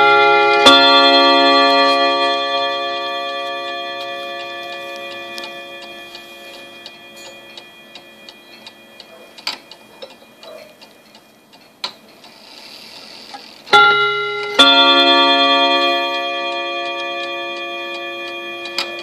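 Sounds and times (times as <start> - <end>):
clock chime rods ringing: 0.0 - 19.0
clock ticking: 0.0 - 19.0.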